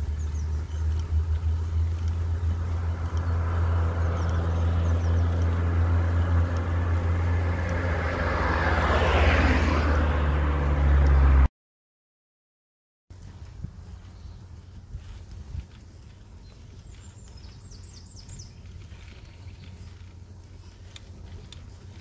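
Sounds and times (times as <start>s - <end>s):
tyre noise: 0.0s - 11.4s, 13.1s - 22.0s
vehicle engine droning: 0.0s - 11.5s, 13.1s - 22.0s.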